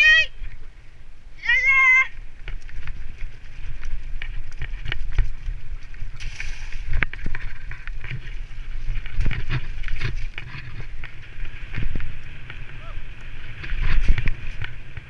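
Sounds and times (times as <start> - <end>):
wind rumble on microphone: 0.0 - 15.0
bike rattling over bumps: 2.2 - 15.0.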